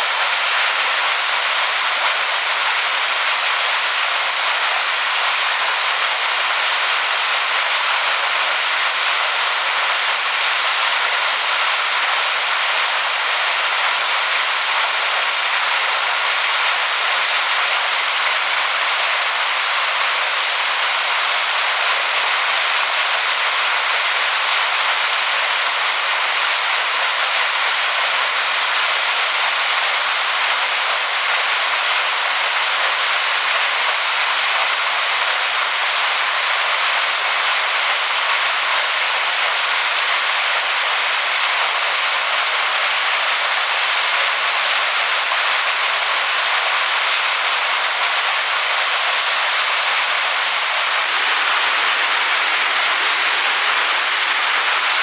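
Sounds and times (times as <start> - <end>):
waterfall pouring onto rocks: 0.0 - 55.0.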